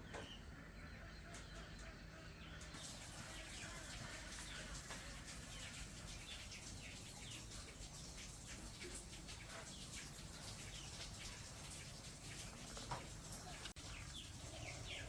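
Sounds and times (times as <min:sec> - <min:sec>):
birds chirping: 0:00.0 - 0:15.0
faint background hum: 0:00.0 - 0:15.0.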